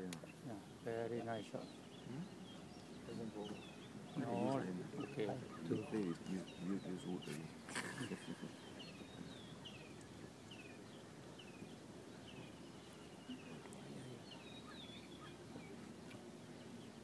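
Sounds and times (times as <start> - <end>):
bird chirping faintly: 0.0 - 17.0.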